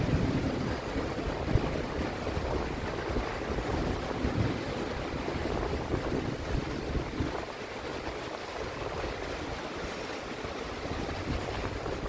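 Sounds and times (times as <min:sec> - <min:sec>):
steady rain falling: 0:00.0 - 0:12.0
wind buffeting microphone: 0:00.0 - 0:12.0.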